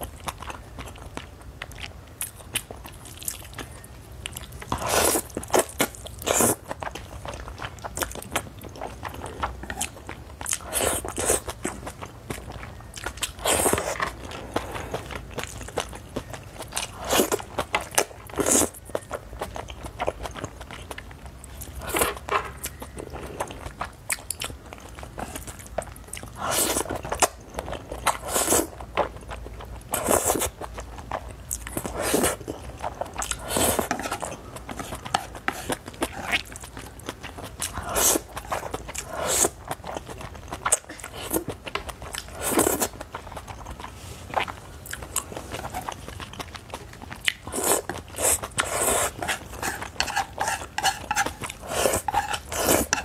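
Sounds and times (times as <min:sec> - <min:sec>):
person chewing: 0:00.0 - 0:53.0.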